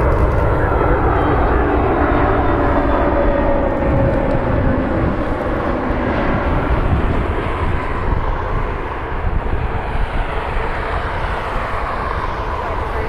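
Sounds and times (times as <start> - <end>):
jet airliner passing by: 0.0 - 13.0.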